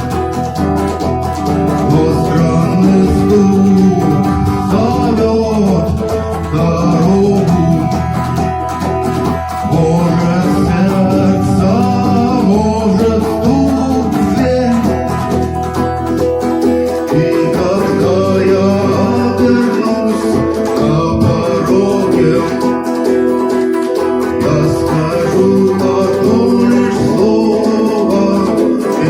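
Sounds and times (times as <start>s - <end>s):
guitar-led song: 0.0s - 29.0s.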